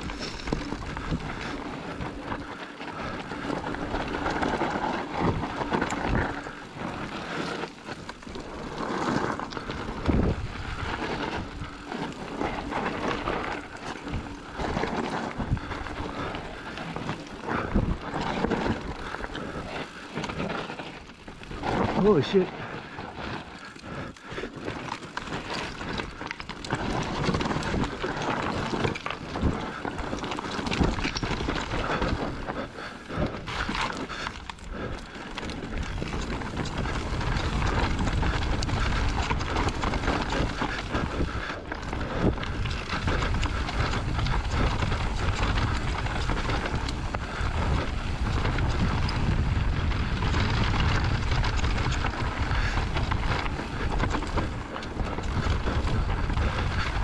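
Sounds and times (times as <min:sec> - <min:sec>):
bike rattling and knocking: 0:00.0 - 0:57.0
tyres rolling over dirt and stones: 0:00.0 - 0:57.0
wind buffeting microphone: 0:00.0 - 0:57.0.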